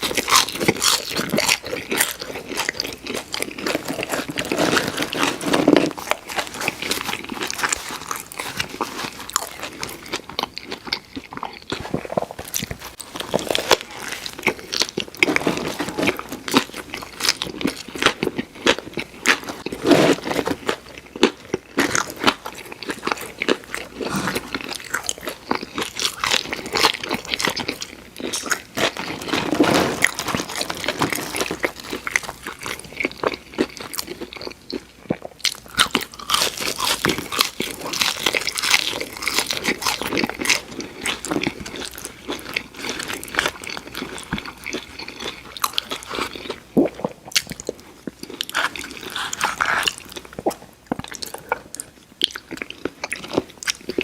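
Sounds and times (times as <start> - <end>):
person crunching fried food: 0.0 - 54.0.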